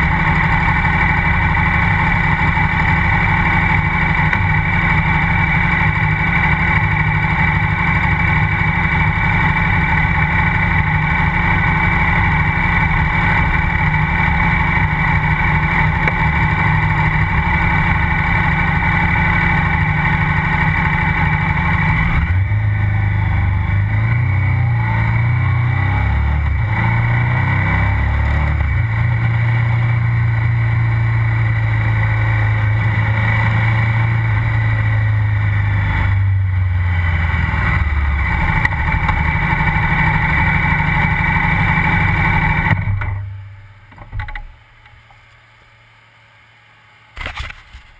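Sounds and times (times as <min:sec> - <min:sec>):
motorcycle engine running: 0:00.0 - 0:45.1
road and wind noise: 0:00.0 - 0:46.0.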